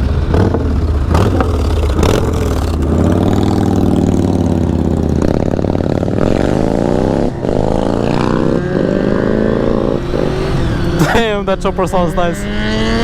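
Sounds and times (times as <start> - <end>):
chopper motorcycle engine: 0.0 - 13.0
motorcycle engines at low revs: 0.0 - 13.0.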